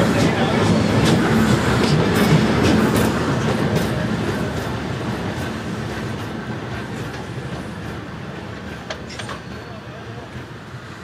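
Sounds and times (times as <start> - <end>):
train wheels clattering: 0.0 - 10.6
train rumble: 0.0 - 11.0.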